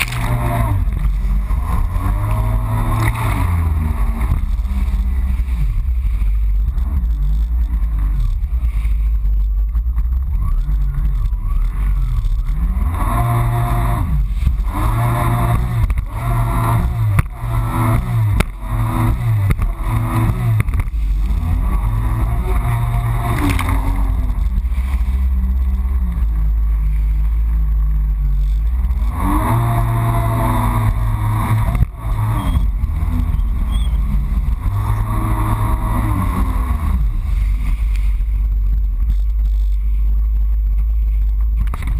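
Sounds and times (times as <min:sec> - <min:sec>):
jet ski engine revving: 0:00.0 - 0:41.9.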